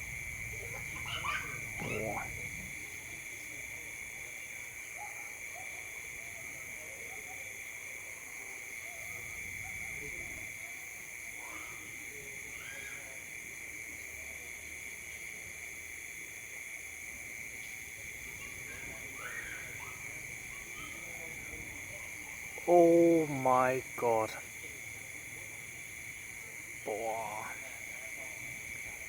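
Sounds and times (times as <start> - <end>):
faint insect calls: 0.0 - 29.0
insects chirring: 0.0 - 29.0.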